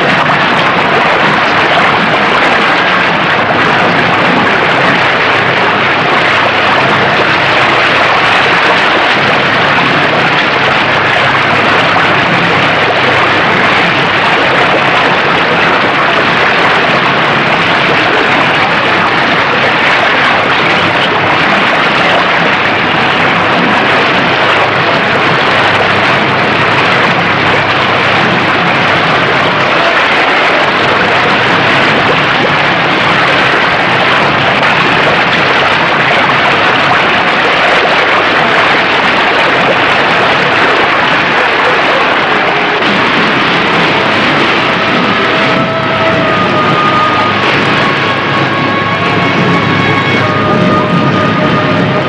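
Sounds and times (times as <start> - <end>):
fast-flowing river water: 0.0 - 52.0.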